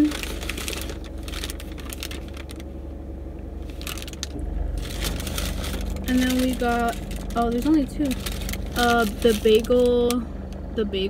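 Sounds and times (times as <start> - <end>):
paper bag crinkling: 0.0 - 2.8, 3.6 - 10.2
low steady hum: 0.0 - 11.0.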